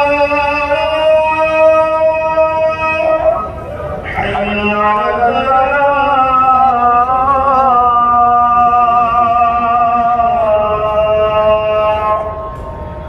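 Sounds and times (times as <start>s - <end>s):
man chanting long notes: 0.0s - 13.0s.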